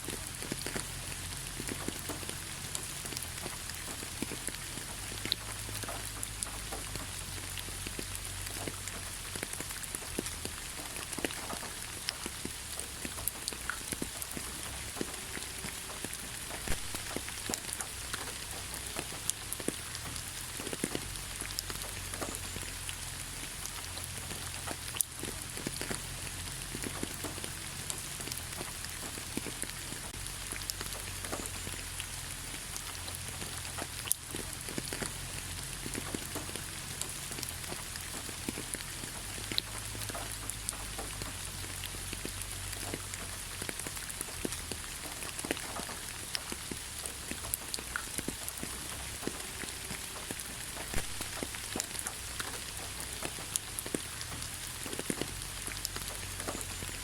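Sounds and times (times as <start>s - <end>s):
rain falling on leaves: 0.0s - 57.0s
raindrops tapping: 0.0s - 57.0s.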